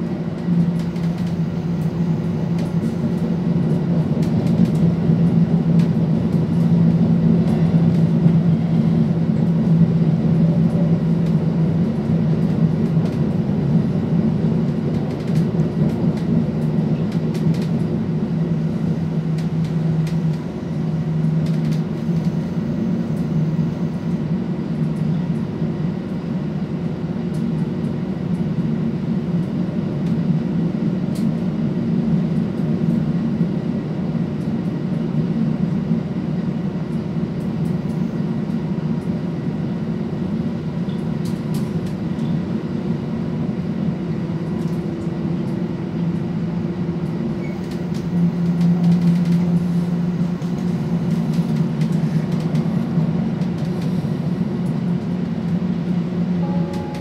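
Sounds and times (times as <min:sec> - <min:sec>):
diesel railcar engine drone: 0:00.0 - 0:57.0
wheel and rail running noise: 0:00.0 - 0:57.0.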